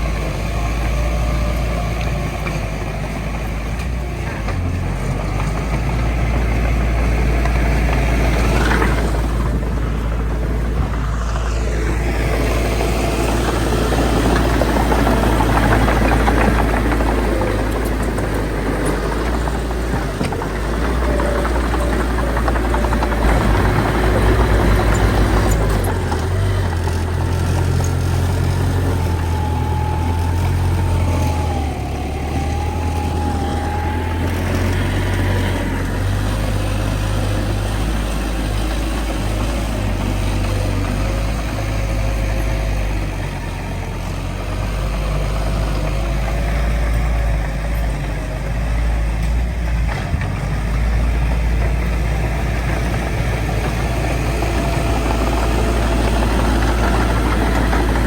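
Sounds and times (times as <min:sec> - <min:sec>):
diesel machinery engine rumble: 0:00.0 - 0:58.0.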